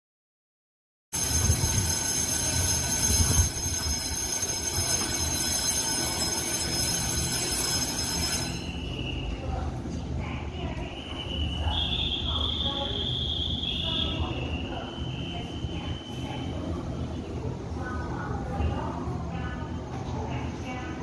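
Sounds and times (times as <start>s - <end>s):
train low rumble: 1.2s - 21.0s.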